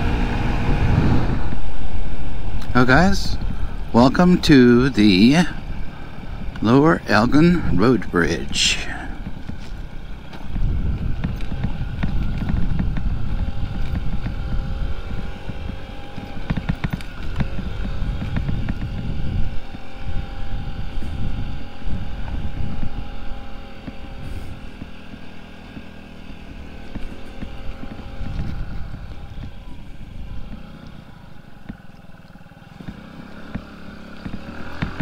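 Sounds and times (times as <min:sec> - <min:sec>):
scooter engine running: 0:00.0 - 0:35.0
wind buffeting microphone: 0:00.0 - 0:35.0.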